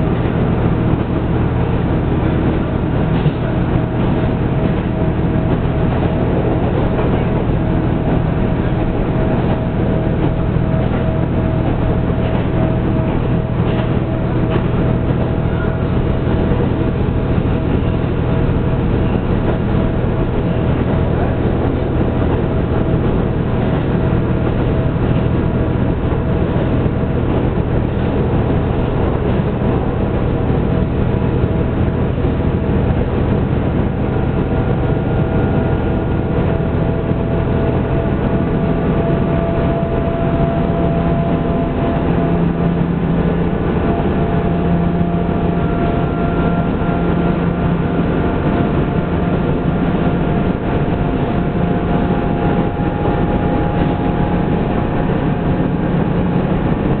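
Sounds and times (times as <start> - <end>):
diesel engine drone: 0.0 - 57.0
rolling rail noise: 0.0 - 57.0.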